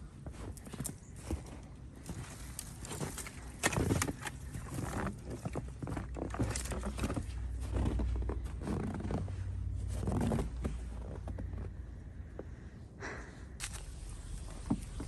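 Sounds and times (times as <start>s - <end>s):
low rumble on microphone: 0.0s - 15.0s.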